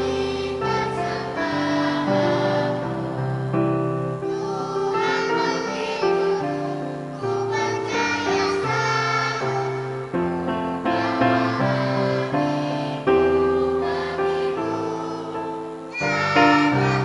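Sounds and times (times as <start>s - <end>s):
children's choir singing a hymn: 0.0s - 17.0s.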